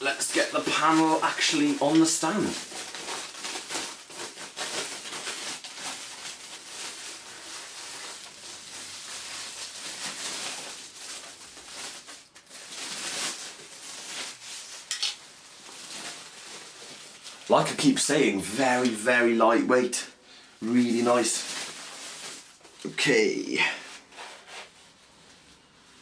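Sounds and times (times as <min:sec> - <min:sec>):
plastic bag rustling: 0:00.0 - 0:20.0, 0:20.6 - 0:26.0.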